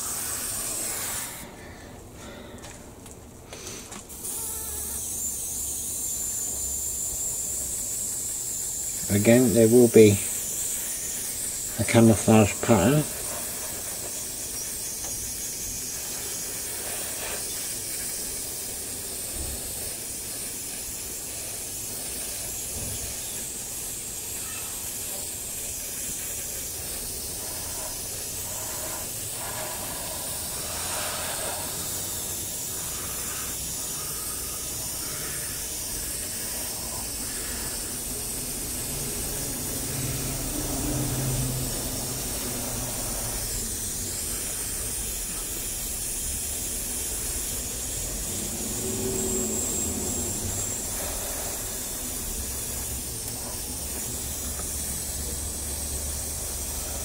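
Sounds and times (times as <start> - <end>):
airbrush hissing: 0.0 - 2.5, 3.4 - 57.0.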